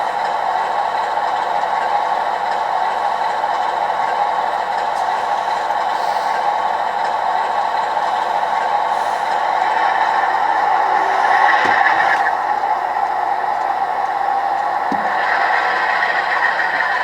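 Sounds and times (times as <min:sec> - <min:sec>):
model locomotive running: 0:00.0 - 0:17.0.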